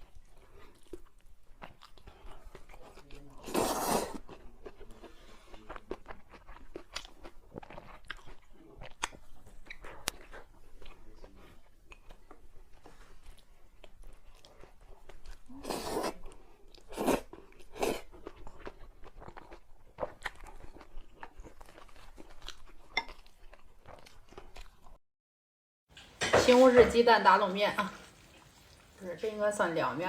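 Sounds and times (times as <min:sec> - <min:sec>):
chewing crunchy food: 0:00.0 - 0:25.0, 0:27.8 - 0:29.1.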